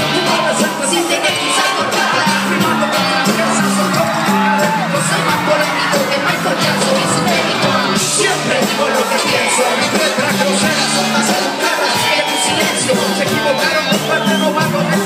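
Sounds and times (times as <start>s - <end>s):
live band playing: 0.0s - 15.0s
steady drum beat: 0.0s - 15.0s.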